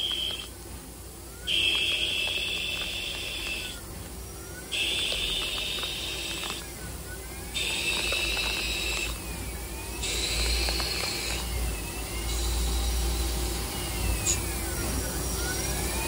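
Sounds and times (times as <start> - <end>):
lathe cutting hiss and whine: 0.0 - 16.0
low machine hum: 0.0 - 16.0.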